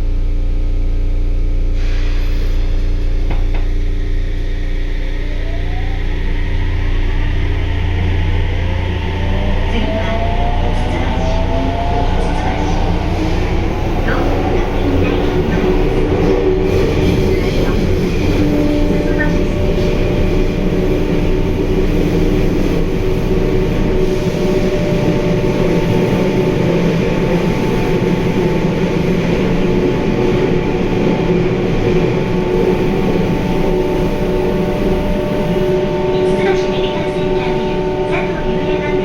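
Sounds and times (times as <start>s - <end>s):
wheel and rail rumble: 1.8s - 39.0s.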